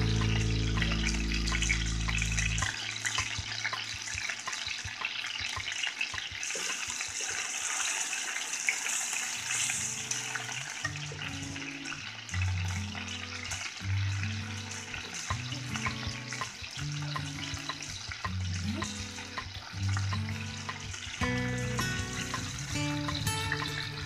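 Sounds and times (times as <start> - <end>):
background music: 0.0 - 6.5, 9.5 - 24.0
chicken sizzling in hot oil: 0.0 - 24.0.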